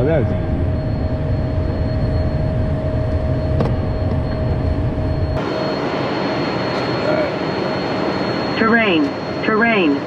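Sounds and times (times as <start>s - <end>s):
jet cockpit airflow and engines: 0.0s - 10.0s
thin steady whine: 0.0s - 10.0s.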